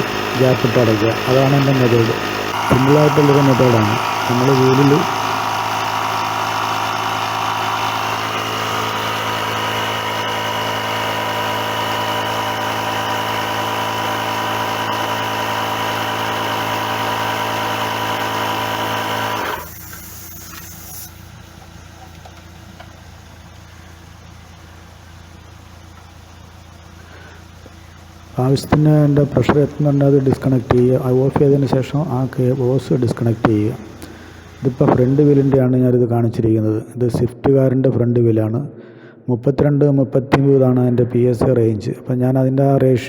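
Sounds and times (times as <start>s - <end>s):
air compressor running: 0.0s - 35.7s.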